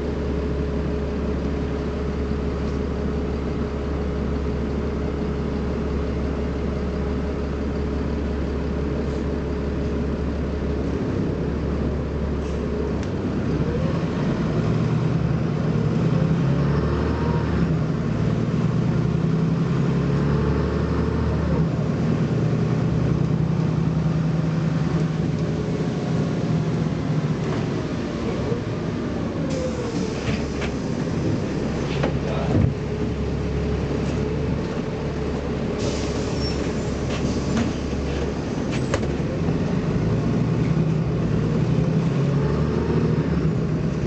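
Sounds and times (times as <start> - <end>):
bus engine accelerating: 0.0 - 44.0.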